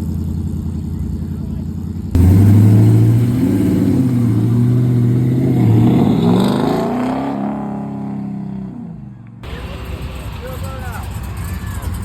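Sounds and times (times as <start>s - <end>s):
car engine revving and passing by: 2.1s - 12.0s.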